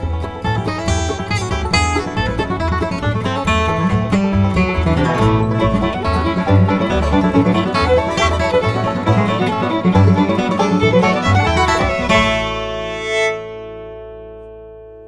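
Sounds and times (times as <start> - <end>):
bluegrass music with banjo and guitar: 0.0 - 14.9.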